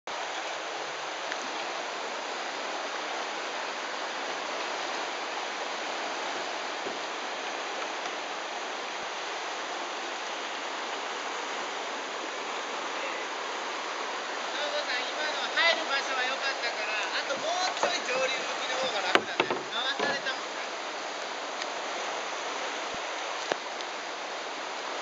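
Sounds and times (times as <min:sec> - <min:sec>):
rush of whitewater: 0:00.0 - 0:25.0.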